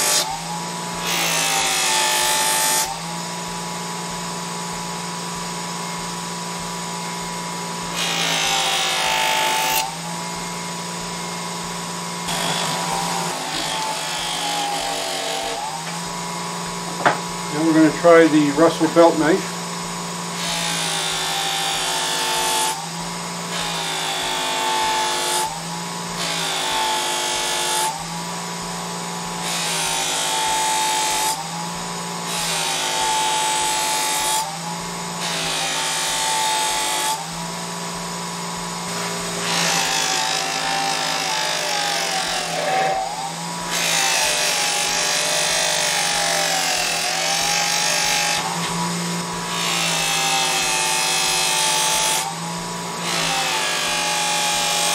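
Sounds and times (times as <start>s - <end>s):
sharpener motor humming: 0.0s - 54.9s
blade grinding on wheel: 6.9s - 19.5s, 23.4s - 54.9s.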